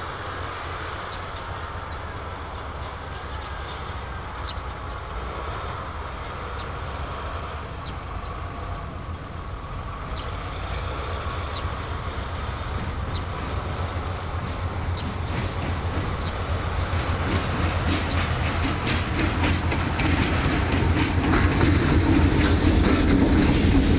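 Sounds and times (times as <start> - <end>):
diesel locomotive engine drone: 0.0 - 23.9.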